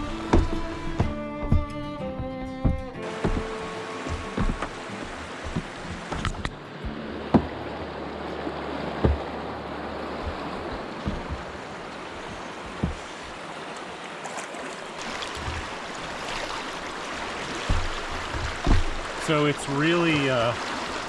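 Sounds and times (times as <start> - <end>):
low thumps: 0.0 - 7.8, 9.0 - 13.4, 15.0 - 20.5
river current rushing: 0.0 - 21.0.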